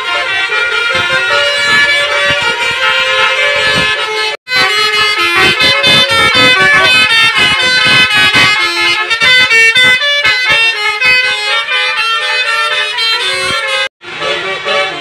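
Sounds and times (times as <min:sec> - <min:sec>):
musical bus horns playing a tune: 0:00.0 - 0:15.0.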